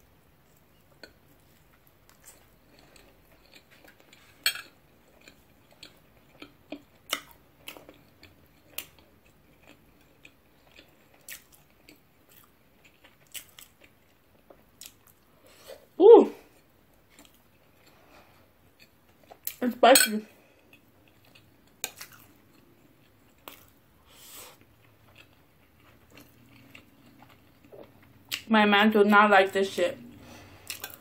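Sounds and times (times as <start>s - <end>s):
person chewing food: 0.1s - 19.6s, 20.4s - 28.5s, 30.0s - 31.0s.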